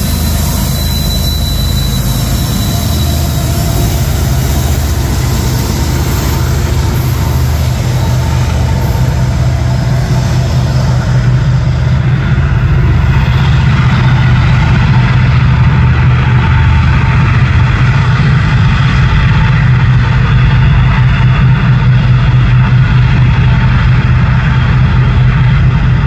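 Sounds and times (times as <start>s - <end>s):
freight train rumble: 0.0s - 26.0s
locomotive engines droning: 0.0s - 26.0s.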